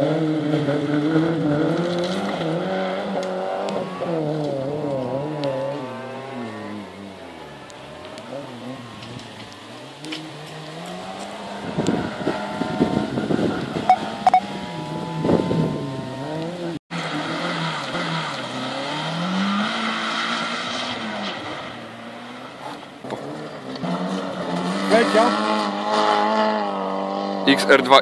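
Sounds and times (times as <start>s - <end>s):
rally car engine revving: 0.0s - 28.0s
tyres on gravel: 1.4s - 25.8s.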